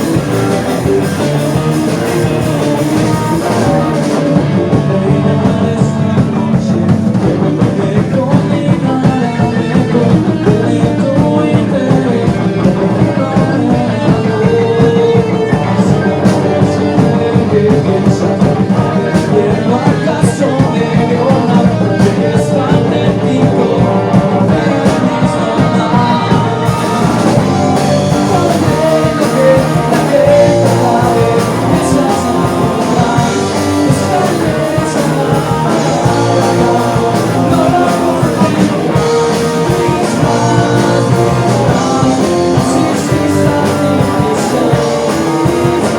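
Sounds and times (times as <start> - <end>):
rock band music: 0.0 - 45.9.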